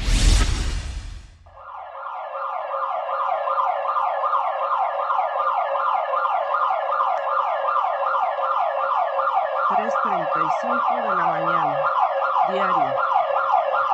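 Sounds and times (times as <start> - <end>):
electronic alarm siren: 1.5 - 13.9.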